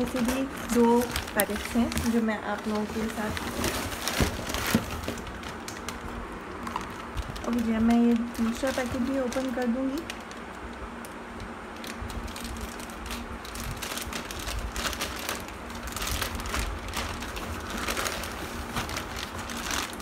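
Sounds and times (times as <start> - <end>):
plastic packet crinkling: 0.0 - 20.0.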